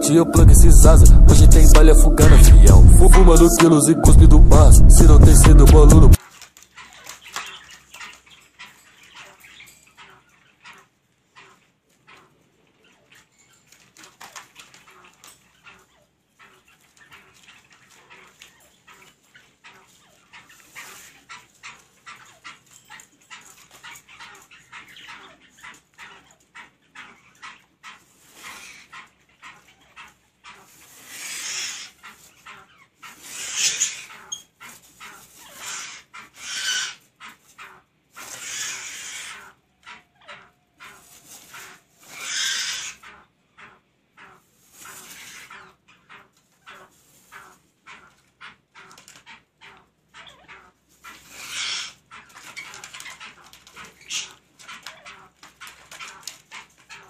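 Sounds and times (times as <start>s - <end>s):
birds clucking and calling: 0.0s - 57.0s.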